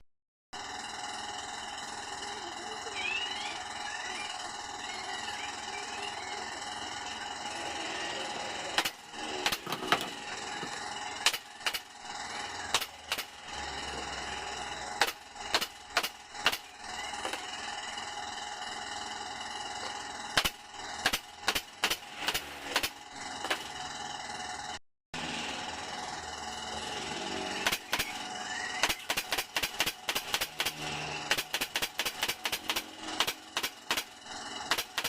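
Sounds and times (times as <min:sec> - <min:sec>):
steady background hum: 0:00.6 - 0:35.0.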